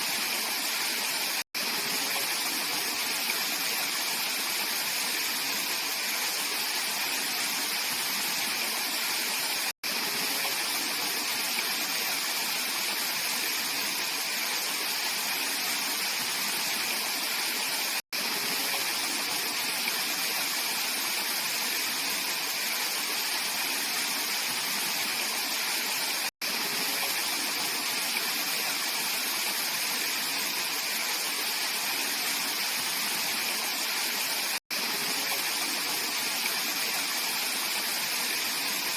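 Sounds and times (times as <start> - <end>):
mountain stream rushing over rocks: 0.0 - 38.9.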